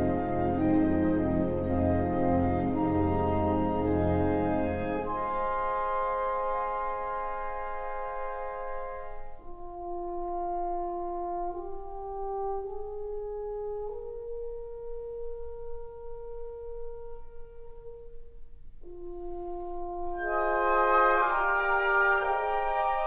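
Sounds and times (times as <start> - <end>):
slow brass-like melody: 0.0 - 23.0.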